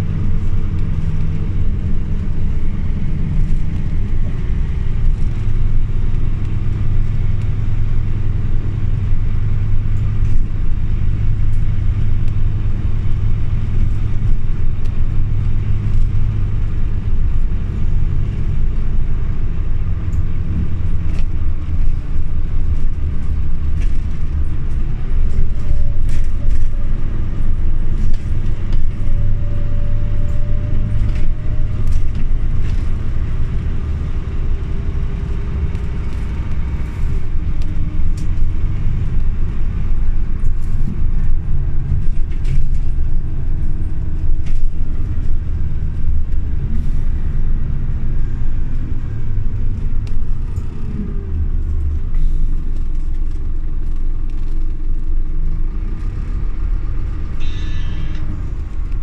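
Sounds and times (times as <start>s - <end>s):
bus engine and road noise drone: 0.0s - 59.0s.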